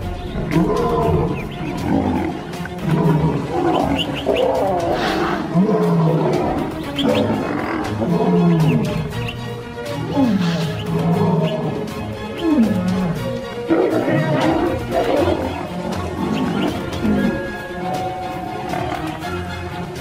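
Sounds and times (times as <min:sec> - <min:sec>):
lions growling: 0:00.0 - 0:19.5
background music: 0:00.0 - 0:20.0.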